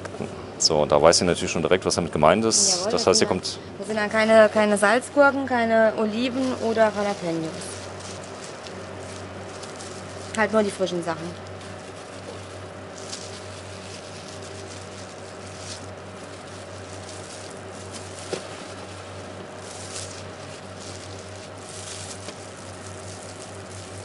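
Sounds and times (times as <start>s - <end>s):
low machine hum: 0.0s - 24.0s
plastic gloves and paper rustling: 2.5s - 24.0s.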